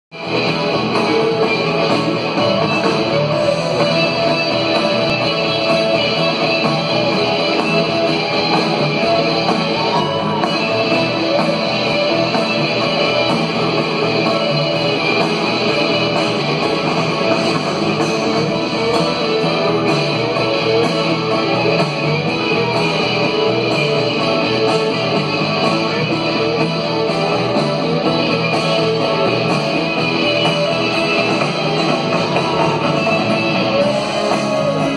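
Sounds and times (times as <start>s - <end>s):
electric guitars: 0.1s - 34.9s
live rock band playing: 0.1s - 34.9s.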